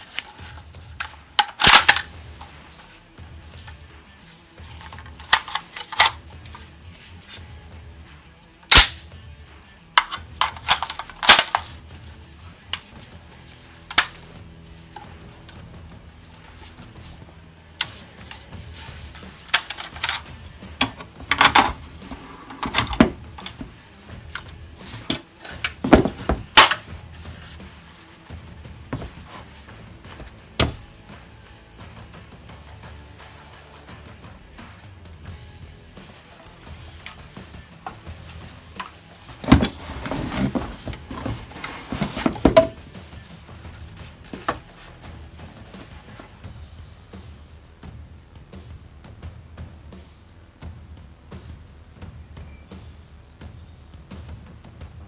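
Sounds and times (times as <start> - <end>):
background music: 0.0 - 55.0.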